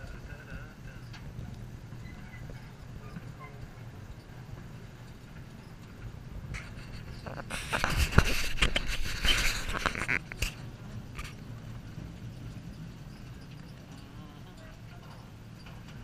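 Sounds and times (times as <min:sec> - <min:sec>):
branches scraping train car: 0:00.0 - 0:16.0
train rumbling: 0:00.0 - 0:16.0.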